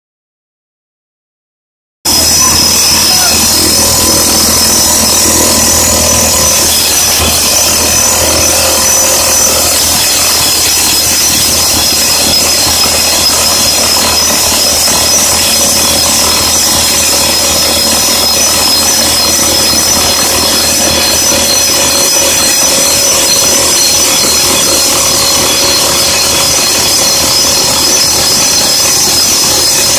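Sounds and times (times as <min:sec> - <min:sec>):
rock drill hammering: 0:02.1 - 0:29.9.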